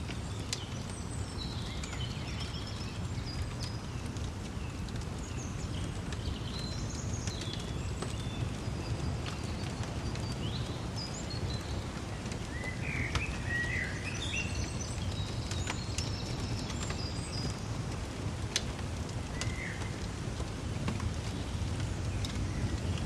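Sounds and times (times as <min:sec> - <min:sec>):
songbirds chirping: 0:00.0 - 0:23.0
wood fire crackles: 0:00.0 - 0:23.0.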